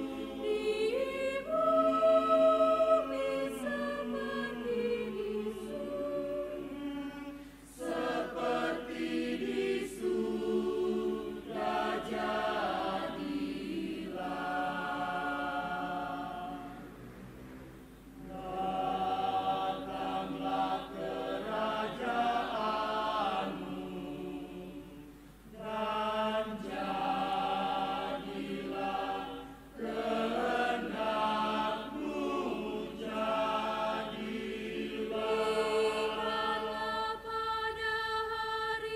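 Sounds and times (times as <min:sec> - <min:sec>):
mixed choir singing: 0:00.0 - 0:38.9.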